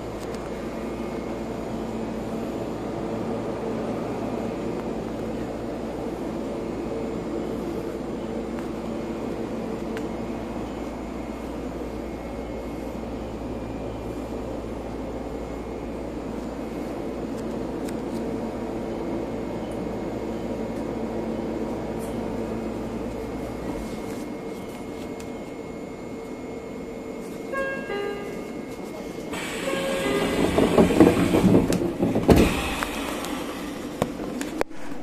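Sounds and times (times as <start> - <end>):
standing train humming: 0.0 - 35.0.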